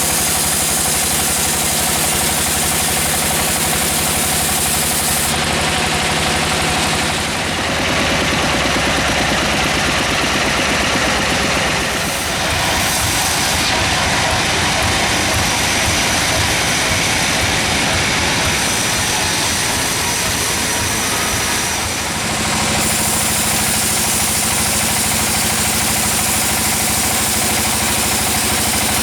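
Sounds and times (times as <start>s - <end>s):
sawmill machinery engine running: 0.0s - 29.0s.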